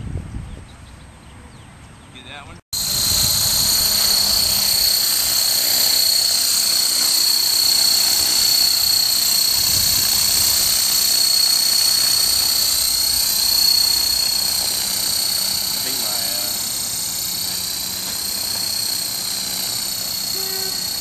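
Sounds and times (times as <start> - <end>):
rc helicopter motor whine: 2.8 - 21.0.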